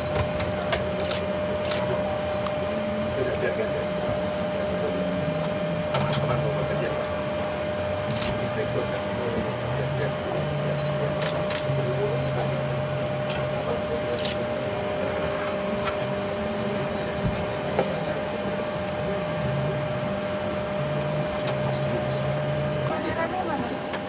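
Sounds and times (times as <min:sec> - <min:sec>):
ventilation hum with high whine: 0:00.0 - 0:24.0.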